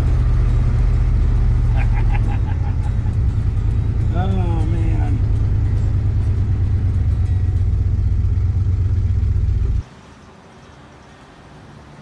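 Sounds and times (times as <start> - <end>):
car engine low rumble: 0.0 - 9.8.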